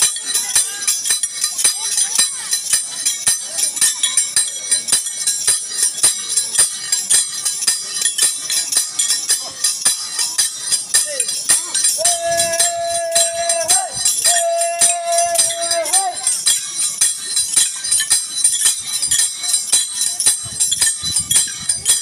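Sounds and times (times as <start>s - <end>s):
hand cymbals clashing: 0.0s - 22.0s.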